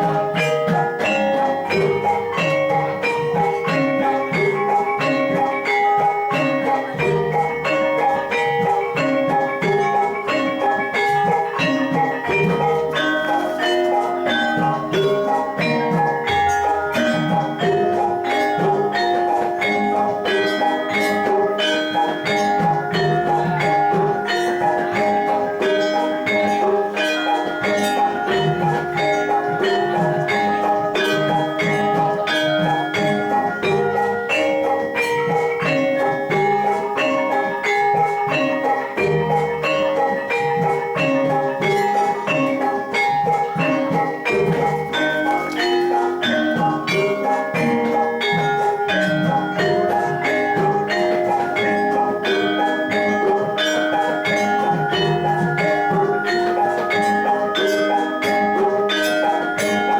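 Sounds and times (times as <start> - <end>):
gamelan metallophones and gongs: 0.0 - 59.9
percussion: 0.0 - 59.9.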